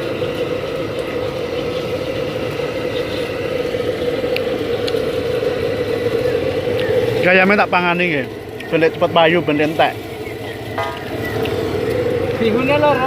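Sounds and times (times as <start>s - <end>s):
steady mechanical roar: 0.0s - 13.0s.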